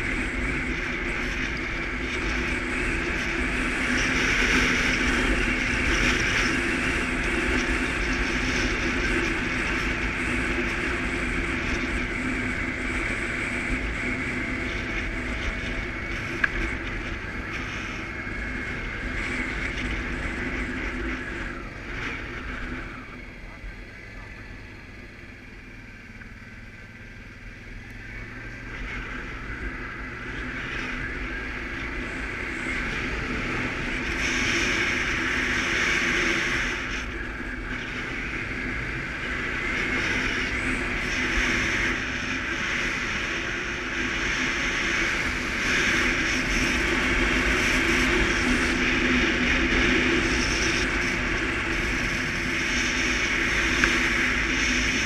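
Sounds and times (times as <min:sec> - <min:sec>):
atv engine running: 0:00.0 - 0:55.0
wind and road noise: 0:00.0 - 0:55.0.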